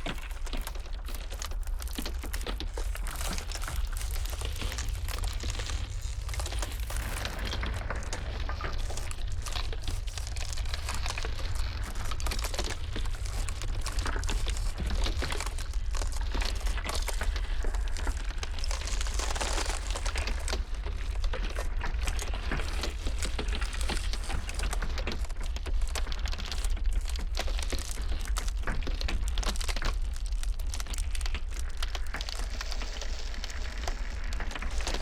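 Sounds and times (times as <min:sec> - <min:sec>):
blizzard wind rumble: 0:00.0 - 0:35.0
ice cracking: 0:00.0 - 0:35.0.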